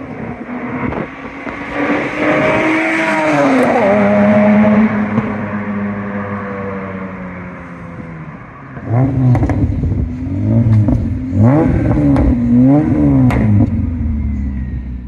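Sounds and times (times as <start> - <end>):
engine revving: 0.0 - 7.2, 8.8 - 15.0.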